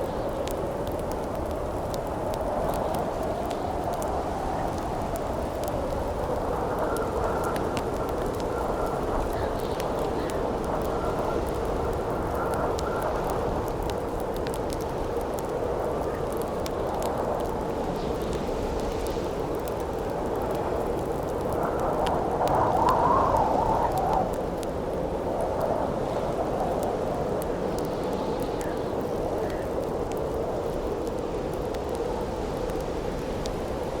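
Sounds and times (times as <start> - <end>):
campfire crackling and popping: 0.0 - 34.0
howling wind: 0.0 - 34.0.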